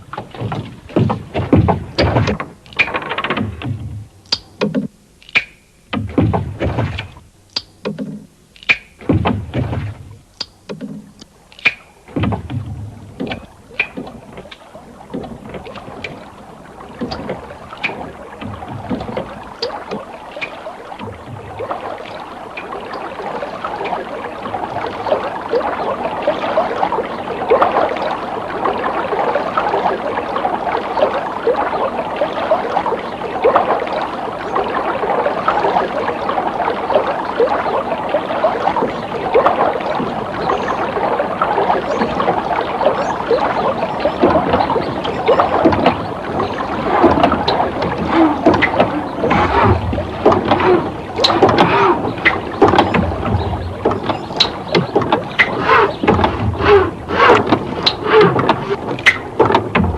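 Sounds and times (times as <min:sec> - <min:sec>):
water splashing and sloshing: 0:00.0 - 0:59.9.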